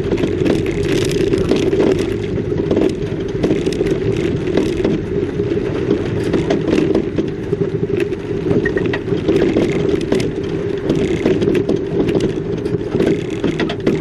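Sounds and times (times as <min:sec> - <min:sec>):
car road and engine noise: 0:00.0 - 0:14.0
knocks and rattles: 0:00.0 - 0:14.0.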